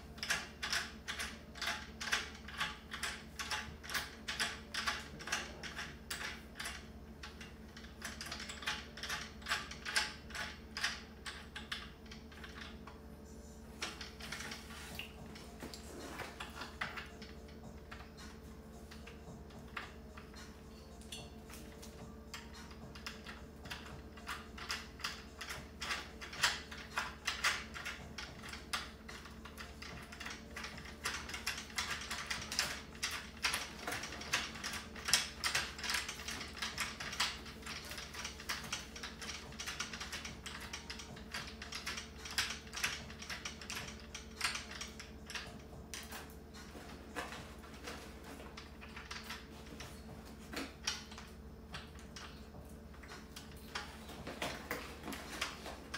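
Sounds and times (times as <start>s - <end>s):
metal caster wheel clicking and rattling: 0.0s - 13.0s, 13.7s - 55.9s.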